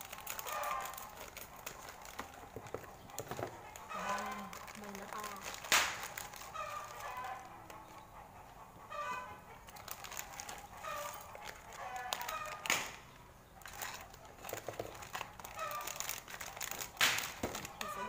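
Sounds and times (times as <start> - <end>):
plastic packet crinkling: 0.0 - 8.0, 9.6 - 18.0
dry noodles crackling: 0.0 - 9.0, 9.6 - 18.0.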